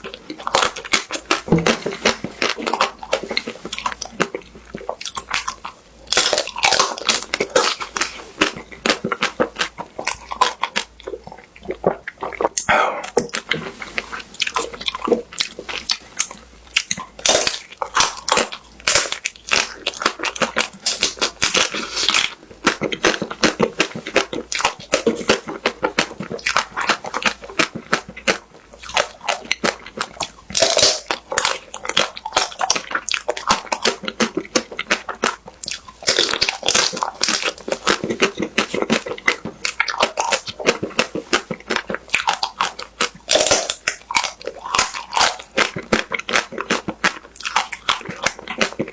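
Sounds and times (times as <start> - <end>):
crunching and chewing ice cream: 0.0 - 48.9.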